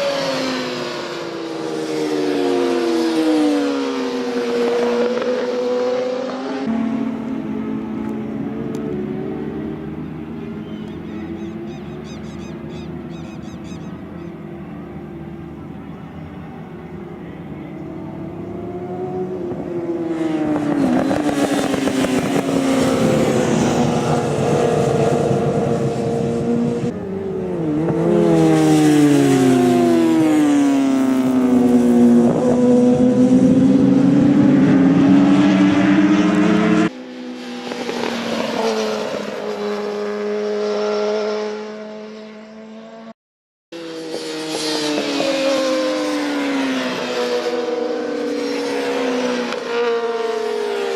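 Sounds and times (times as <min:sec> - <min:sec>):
racing motorcycle engines revving: 0:00.0 - 0:43.1, 0:43.8 - 0:50.9.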